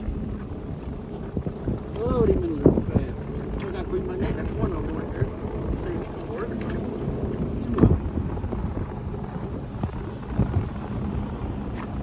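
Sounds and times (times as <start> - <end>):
high-pitched insect buzz: 0.0 - 12.0
wind rumbling on microphone: 0.0 - 12.0.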